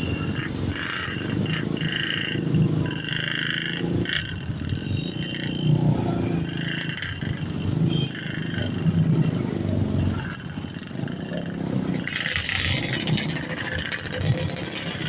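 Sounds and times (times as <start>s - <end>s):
passing engine and tyre noise: 0.0s - 15.0s
vehicle engines rumbling: 0.0s - 15.0s.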